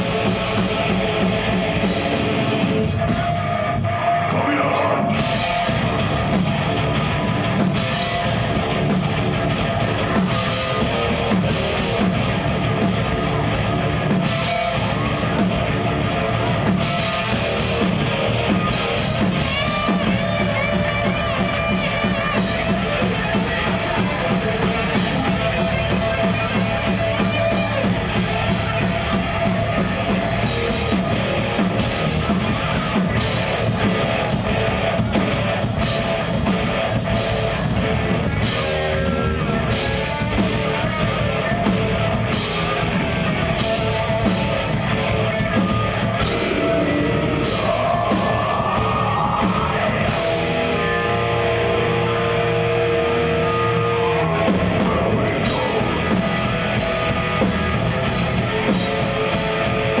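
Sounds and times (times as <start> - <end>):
busy drum kit: 0.0 - 4.2, 5.1 - 60.0
distorted electric guitars: 0.0 - 60.0.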